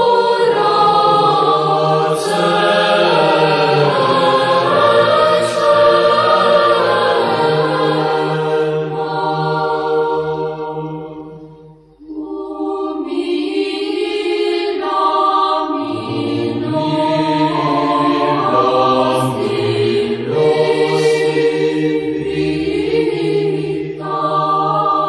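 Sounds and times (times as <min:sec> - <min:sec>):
low vocal drone: 0:00.0 - 0:11.4, 0:12.0 - 0:25.0
choir chanting: 0:00.0 - 0:25.0.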